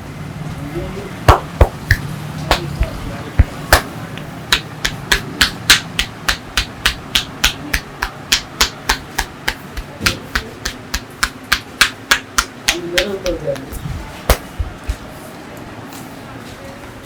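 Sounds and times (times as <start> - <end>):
hands slapping on body: 1.3 - 15.1.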